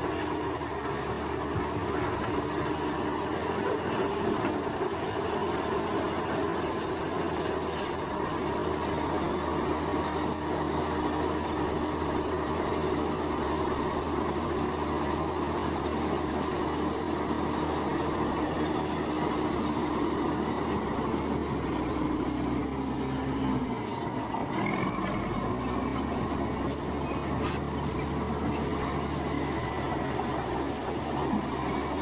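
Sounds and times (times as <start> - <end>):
bulldozer engine running: 0.0 - 32.0
steel tracks squealing: 0.0 - 32.0.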